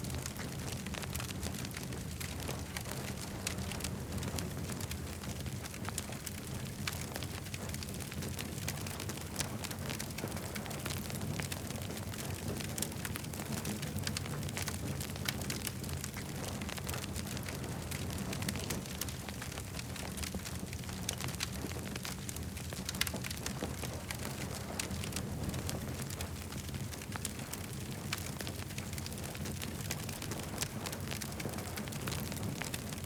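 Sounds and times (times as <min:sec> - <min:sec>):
campfire crackling and popping: 0:00.1 - 0:33.0.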